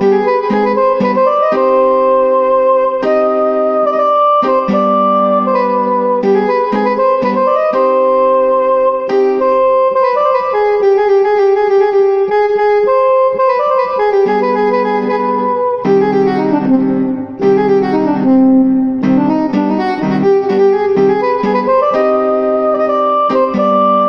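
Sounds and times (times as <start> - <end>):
instrumental background music: 0.0 - 24.0.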